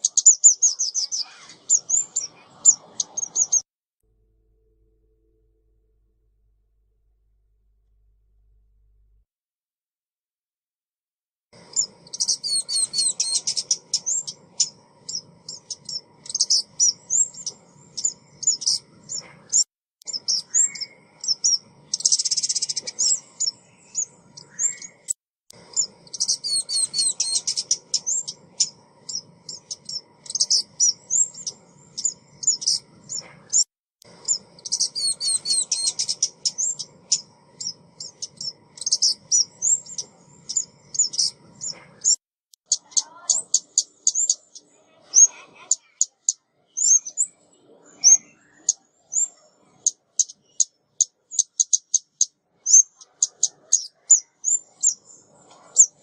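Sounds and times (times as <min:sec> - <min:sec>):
songbird chirping and twittering: 0:00.0 - 0:03.7, 0:11.6 - 0:56.0.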